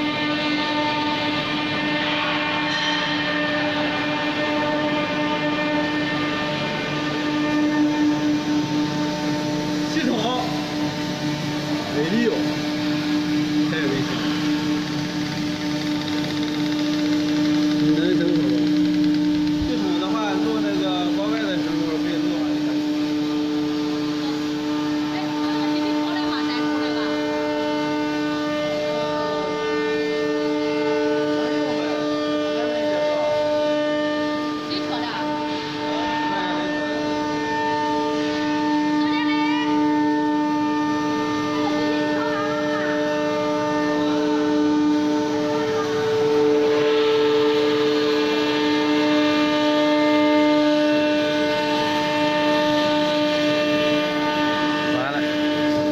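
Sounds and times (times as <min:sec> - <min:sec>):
router spindle motor whine: 0:00.0 - 0:55.9.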